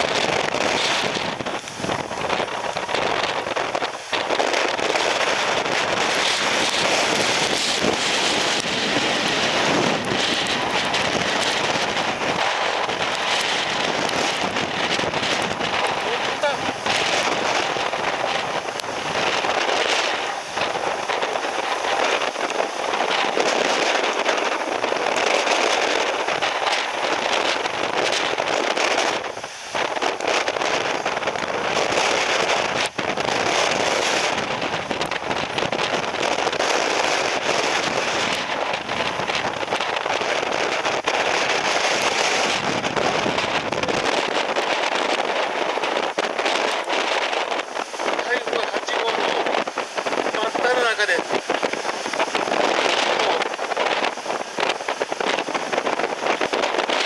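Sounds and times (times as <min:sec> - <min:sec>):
heavy rain: 0:00.0 - 0:57.0
strong gusting wind: 0:00.0 - 0:57.0.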